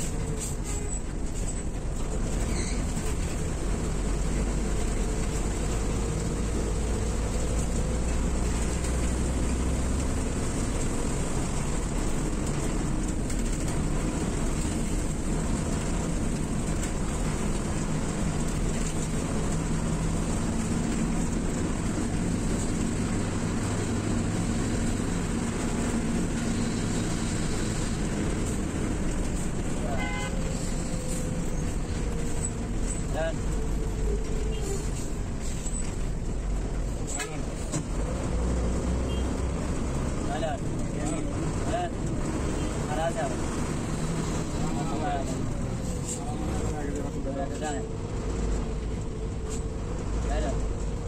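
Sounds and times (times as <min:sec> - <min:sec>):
bus engine drone: 0:00.0 - 0:51.0.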